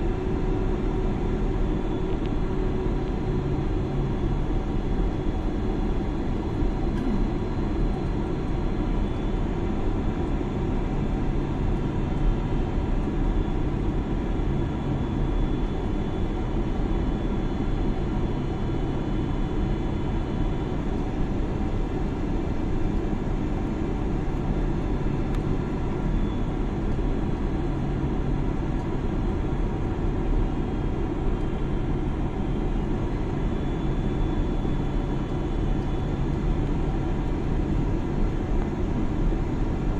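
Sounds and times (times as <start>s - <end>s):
jet engine and airflow roar: 0.0s - 39.9s.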